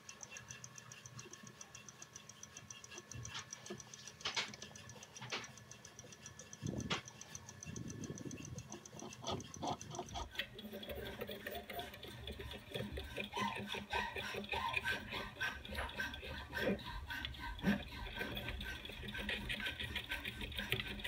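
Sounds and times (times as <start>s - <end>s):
fast even ticking: 0.0s - 21.0s
tool clicking over a whirr: 0.0s - 21.0s.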